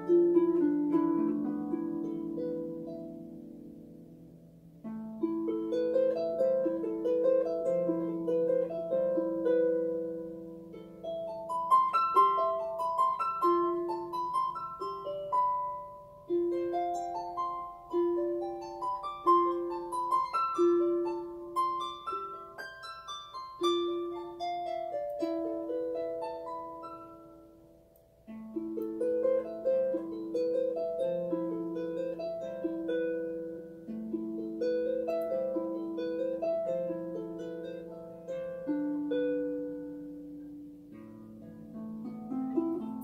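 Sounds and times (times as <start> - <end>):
harp melody: 0.0 - 43.0.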